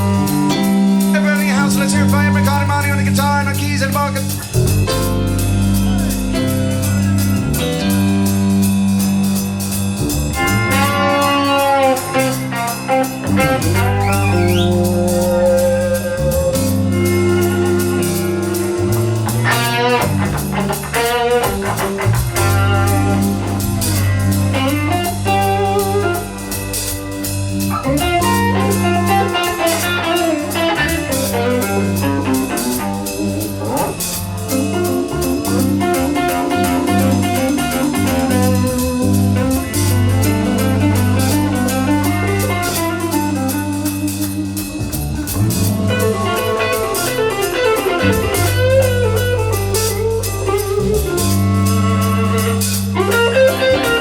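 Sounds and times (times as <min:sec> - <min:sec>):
electric guitar: 0:00.0 - 0:54.0
live rock band: 0:00.0 - 0:54.0.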